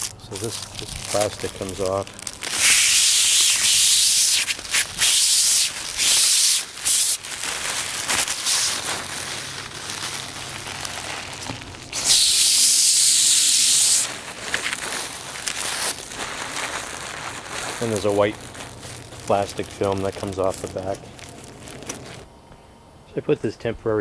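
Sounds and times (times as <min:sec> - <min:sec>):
plastic film peeling off: 0:00.0 - 0:22.3
loose plastic film rustling: 0:00.0 - 0:22.4.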